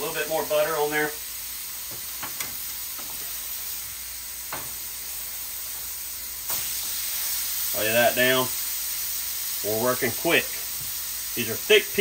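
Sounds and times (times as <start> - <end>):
fish fillets sizzling in butter: 0.0 - 12.0.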